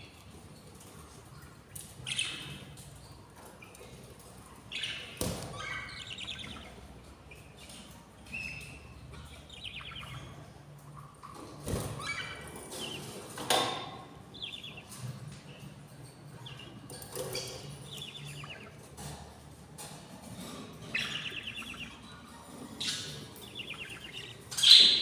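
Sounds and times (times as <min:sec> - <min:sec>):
budgerigars chirping: 0:01.1 - 0:25.0.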